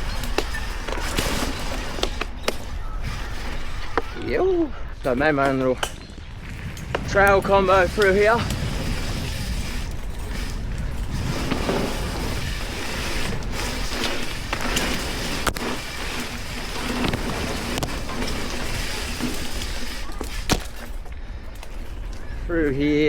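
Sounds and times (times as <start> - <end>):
bike clicks and clatters: 0.0 - 23.0
tyres rolling on dirt: 0.0 - 23.0
wind rushing over microphone: 0.0 - 23.0.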